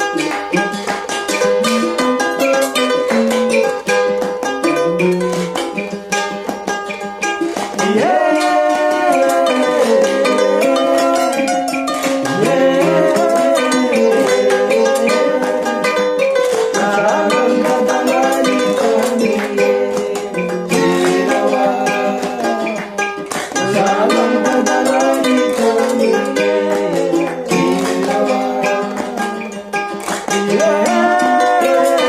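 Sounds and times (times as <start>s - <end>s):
strummed ukulele music: 0.0s - 32.0s.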